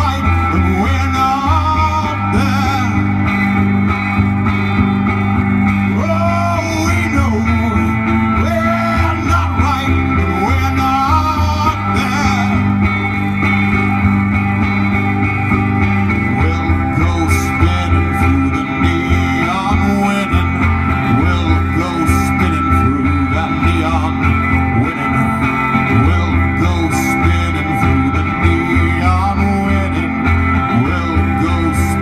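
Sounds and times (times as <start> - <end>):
man singing into microphone: 0.0 - 4.2, 5.8 - 13.6, 16.0 - 32.0
amplified guitar strumming: 0.0 - 32.0
low bass: 0.0 - 32.0.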